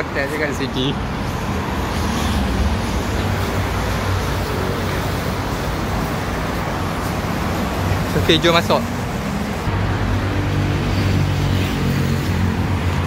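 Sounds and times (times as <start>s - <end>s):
city road traffic rumble: 0.0s - 13.0s.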